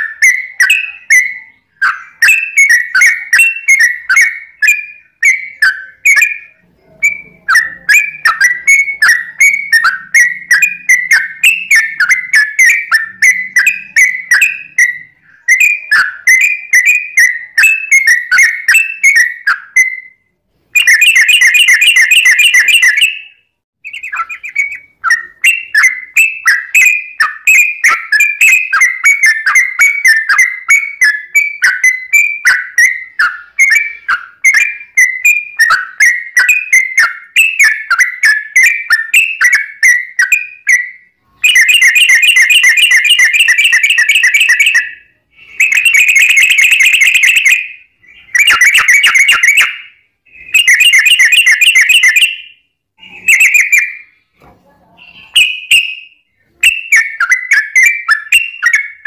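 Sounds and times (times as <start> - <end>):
bird singing with rapid trills: 0.0 - 59.0.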